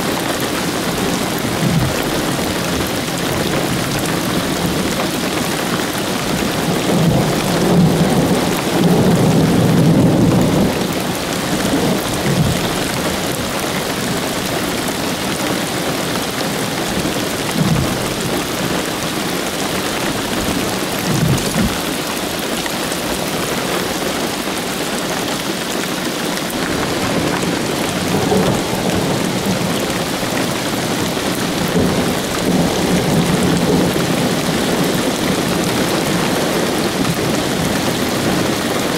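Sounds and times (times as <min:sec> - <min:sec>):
thunder rumbling: 0:00.0 - 0:22.0, 0:26.5 - 0:38.9
rain falling: 0:00.0 - 0:38.9.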